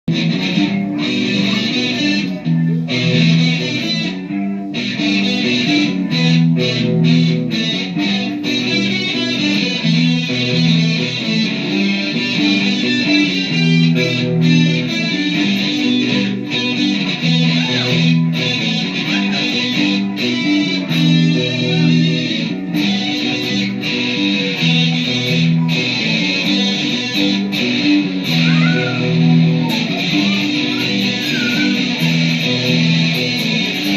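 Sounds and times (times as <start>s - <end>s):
guitar chords plucked and strummed: 0.0s - 33.9s.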